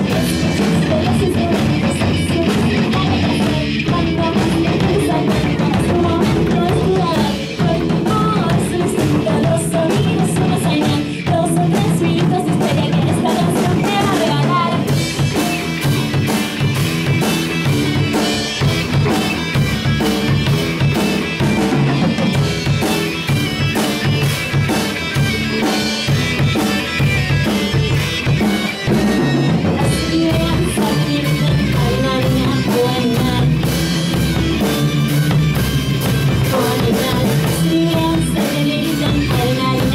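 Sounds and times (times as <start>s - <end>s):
drum kit: 0.0s - 39.9s
electric guitar lead lines: 0.0s - 39.9s.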